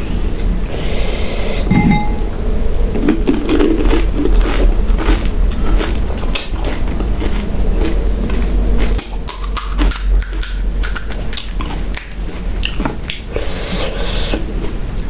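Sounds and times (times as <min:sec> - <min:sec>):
crunching of crisp fried shells: 0:02.9 - 0:15.0.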